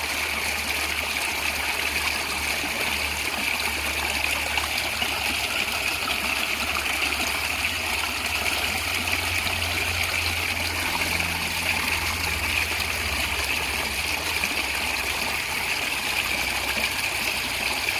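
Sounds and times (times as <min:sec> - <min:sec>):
stream gurgling: 0:00.0 - 0:17.9.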